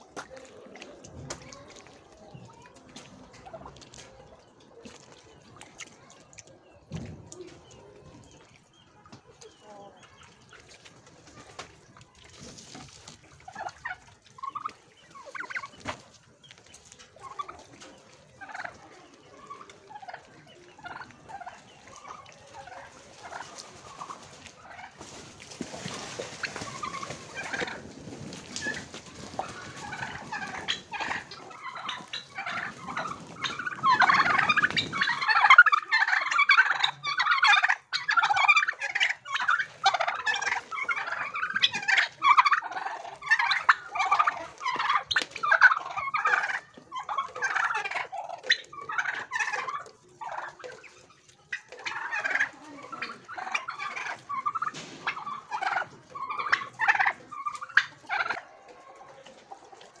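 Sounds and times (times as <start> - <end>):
turkeys gobbling: 0.0 - 60.0.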